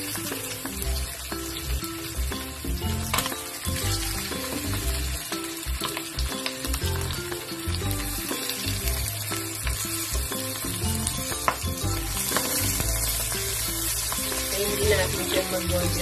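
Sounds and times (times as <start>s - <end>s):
fish sizzling in hot oil: 0.0s - 16.0s
oil crackling and popping: 0.0s - 16.0s.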